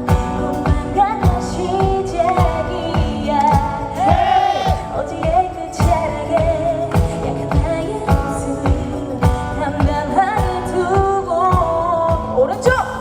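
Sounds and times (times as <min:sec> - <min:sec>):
live pop band: 0:00.0 - 0:13.0
woman singing: 0:00.0 - 0:13.0
kick drum beat: 0:00.1 - 0:12.8.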